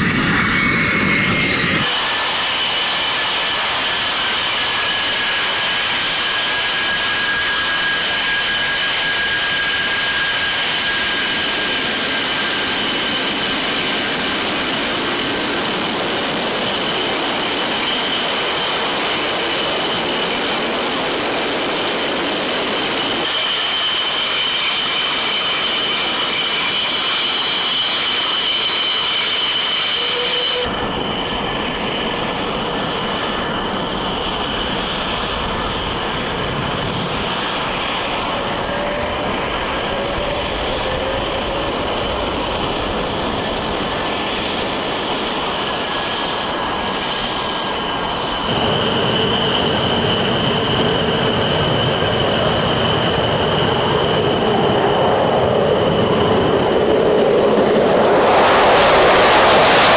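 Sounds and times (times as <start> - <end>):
jet engine roar with high whine: 0.0 - 59.9.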